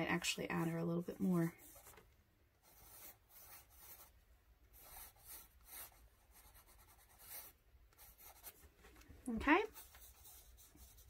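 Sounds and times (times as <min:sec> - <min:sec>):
pencil strokes on paper: 0:00.0 - 0:11.0.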